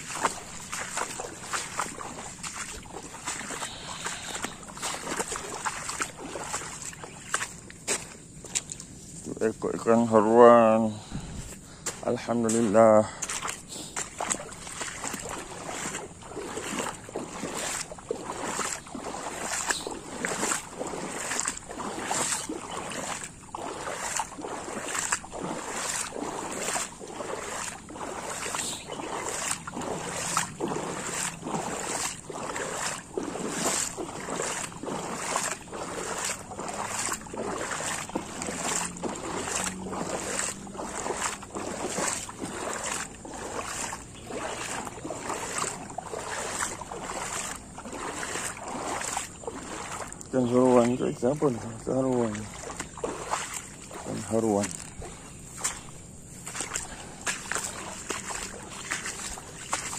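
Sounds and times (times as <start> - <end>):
footsteps splashing through water: 0.0 - 59.9.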